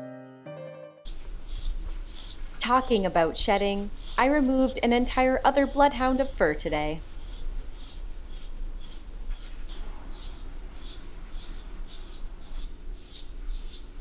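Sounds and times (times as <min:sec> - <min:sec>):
brush rasping through dog fur: 0:01.1 - 0:14.0.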